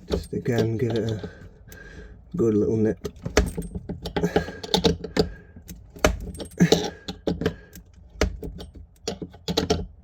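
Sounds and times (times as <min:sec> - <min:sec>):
wrench clicking and scraping on nut: 0:00.0 - 0:01.8, 0:03.0 - 0:10.0.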